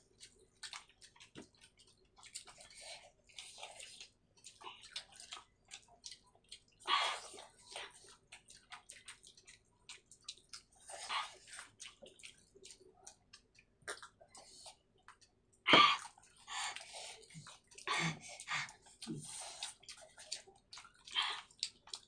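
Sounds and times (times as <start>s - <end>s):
chewing and lip smacking: 0.0s - 22.0s.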